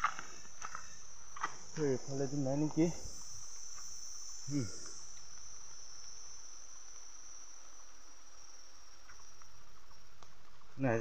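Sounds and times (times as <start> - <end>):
insects chorus droning: 0.0 - 11.0.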